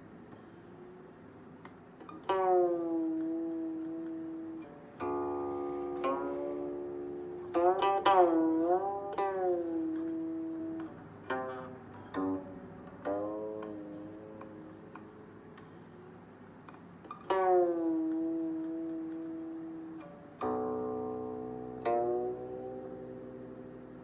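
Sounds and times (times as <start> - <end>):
plucked zither notes: 0.0 - 24.0.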